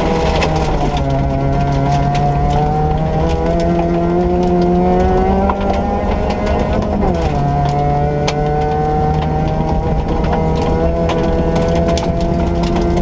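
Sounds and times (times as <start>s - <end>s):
rally car engine revving: 0.0s - 13.0s
sharp clicks and rattles: 0.0s - 13.0s.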